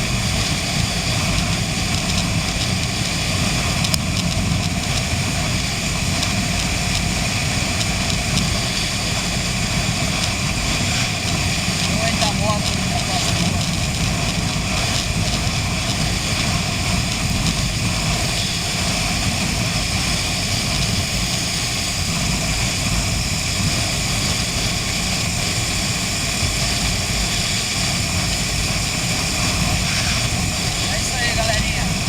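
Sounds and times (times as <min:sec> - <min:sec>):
motorcycle engine drone: 0:00.0 - 0:32.0
wind buffeting microphone: 0:00.0 - 0:32.0.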